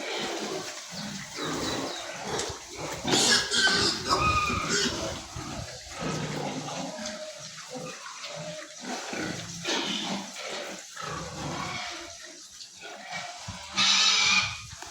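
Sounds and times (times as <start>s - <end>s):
pig squealing: 0.0s - 14.8s
pigs grunting: 0.0s - 14.9s.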